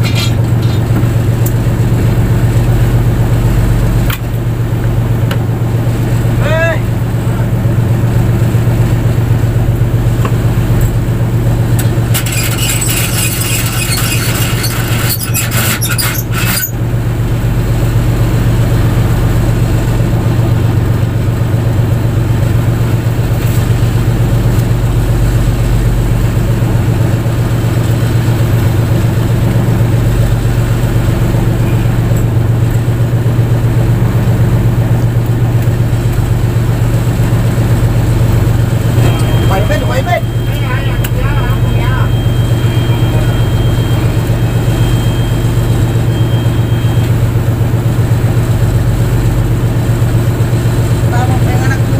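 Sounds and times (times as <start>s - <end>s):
boat engine humming: 0.0s - 51.9s.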